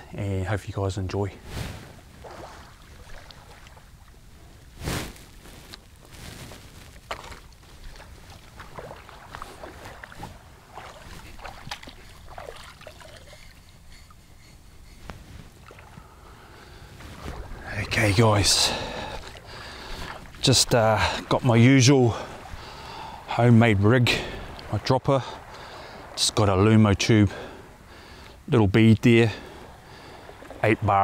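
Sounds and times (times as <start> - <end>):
feet wading through water: 1.4 - 28.4, 29.4 - 31.0.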